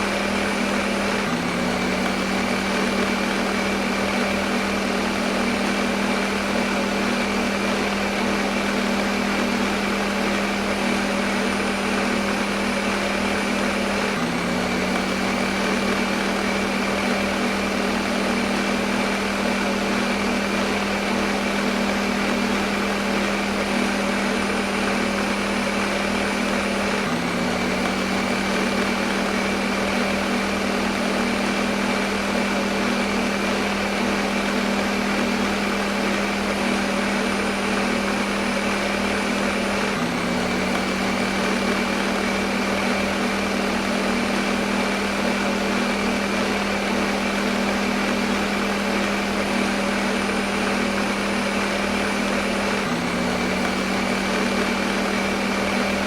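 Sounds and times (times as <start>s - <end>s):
blender motor whirring: 0.0s - 56.0s.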